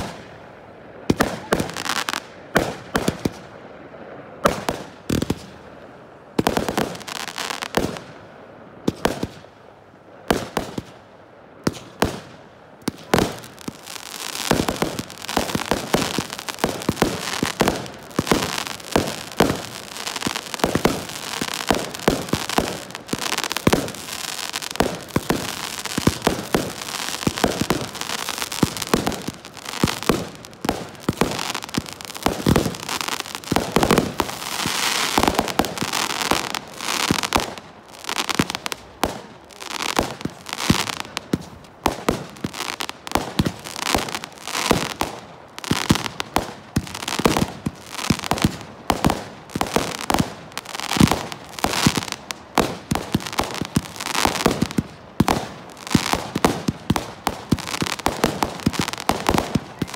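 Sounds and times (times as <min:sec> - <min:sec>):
fireworks bangs and crackling: 0:00.0 - 0:08.2, 0:08.8 - 0:09.5, 0:10.2 - 0:11.0, 0:11.6 - 0:59.9.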